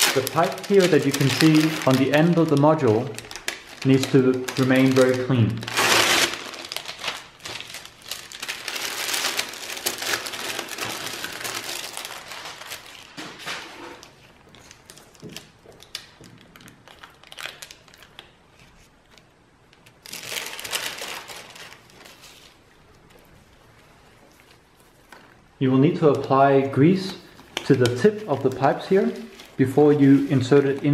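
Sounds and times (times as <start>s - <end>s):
plastic wrapping crinkling: 0.0s - 30.9s.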